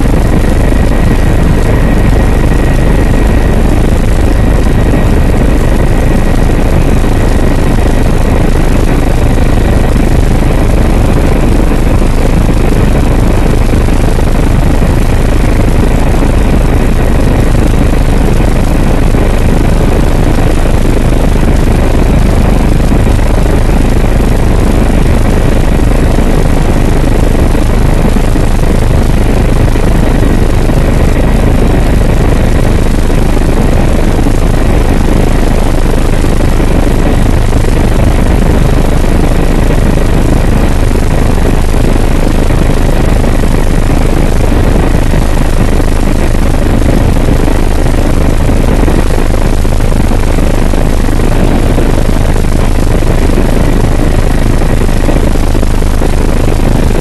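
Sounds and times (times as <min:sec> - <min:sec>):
helicopter engine and rotor drone: 0:00.0 - 0:57.0
thin steady whine: 0:00.0 - 0:57.0.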